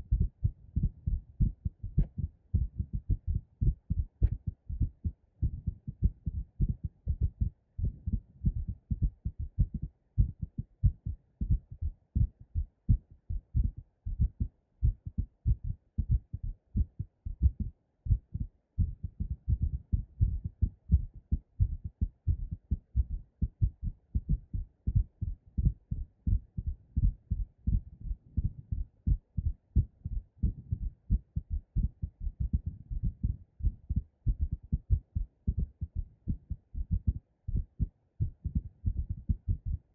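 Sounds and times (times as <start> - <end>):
fast pounding heartbeat: 0.0 - 39.9
heartbeat thumps: 0.0 - 39.9.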